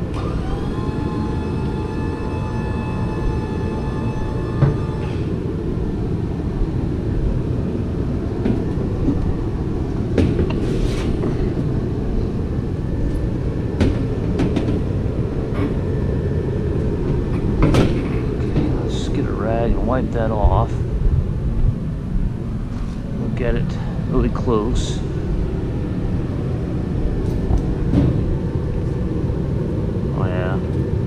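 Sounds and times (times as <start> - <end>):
high whine: 0.0 - 31.0
shop equipment rumbling: 0.0 - 31.0.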